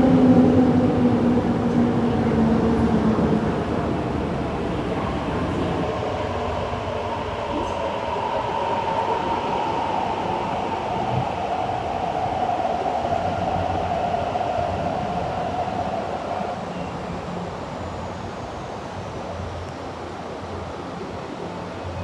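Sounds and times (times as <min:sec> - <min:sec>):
train wheels rumbling: 0:00.0 - 0:17.7.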